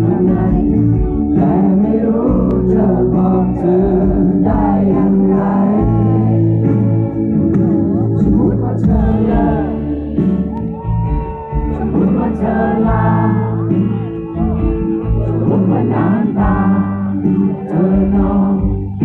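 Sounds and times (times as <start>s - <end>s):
live band playing slow song: 0.0s - 19.0s
person singing: 0.0s - 19.0s.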